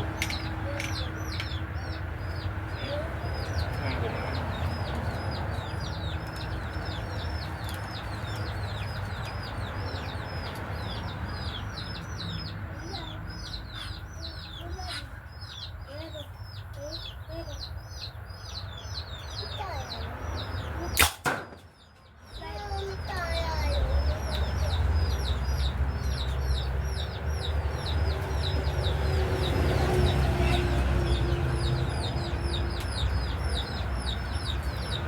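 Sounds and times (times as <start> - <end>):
birds chirping rapidly: 0.0 - 35.0
birds clucking: 0.0 - 35.0.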